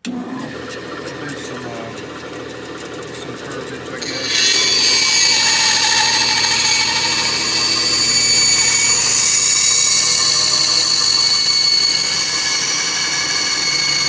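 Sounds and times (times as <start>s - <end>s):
bandsaw cutting wood: 0.0s - 14.0s.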